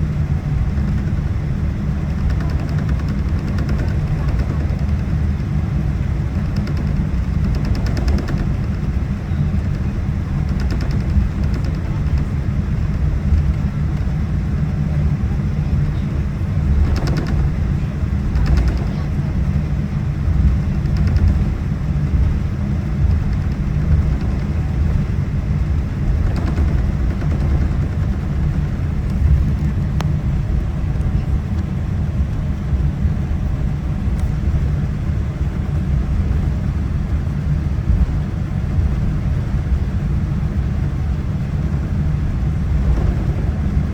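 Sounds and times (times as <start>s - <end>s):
airliner cabin low rumble: 0.0s - 43.9s.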